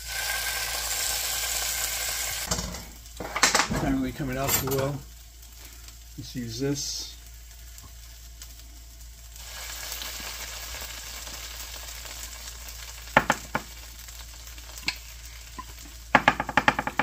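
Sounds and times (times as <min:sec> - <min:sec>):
curry paste sizzling in a pan: 0:00.0 - 0:17.0.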